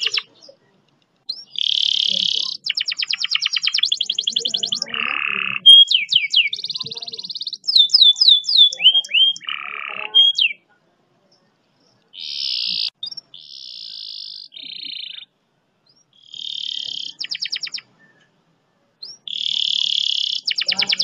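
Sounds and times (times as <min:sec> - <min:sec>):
canary trilling: 0:00.0 - 0:00.5, 0:01.3 - 0:10.6, 0:12.1 - 0:17.9, 0:19.0 - 0:21.0.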